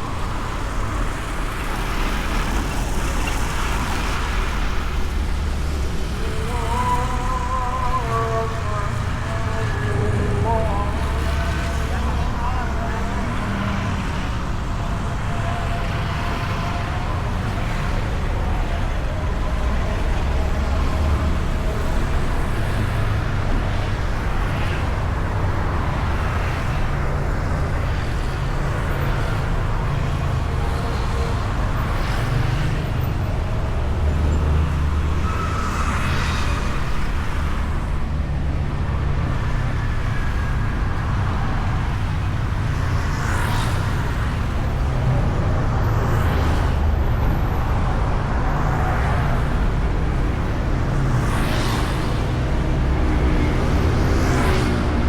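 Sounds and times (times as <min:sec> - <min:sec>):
scooter engine and road rumble: 0:00.0 - 0:55.0
vehicles passing: 0:00.0 - 0:55.0.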